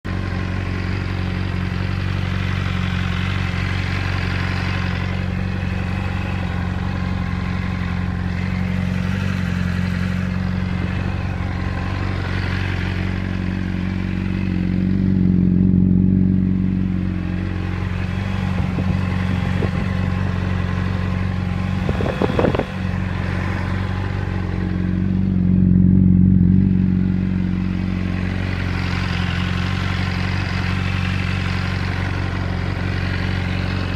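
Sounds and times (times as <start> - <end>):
motorcycle engine idling with clatter: 0.0 - 33.9.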